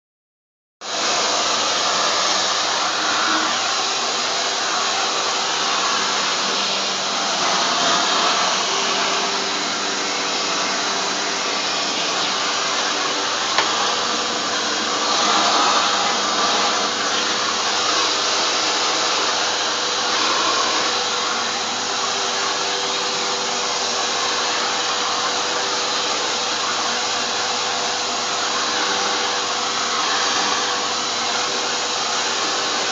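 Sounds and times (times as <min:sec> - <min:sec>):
vacuum cleaner running: 0:00.8 - 0:32.9.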